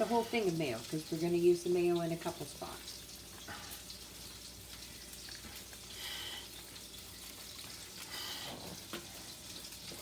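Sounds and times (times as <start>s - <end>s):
burgers sizzling in a frying pan: 0.0s - 10.0s.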